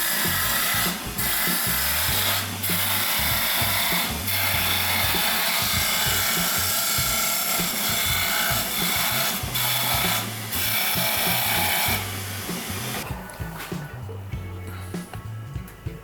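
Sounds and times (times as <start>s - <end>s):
power tool cutting wood: 0.0s - 13.1s
background music: 0.0s - 16.0s.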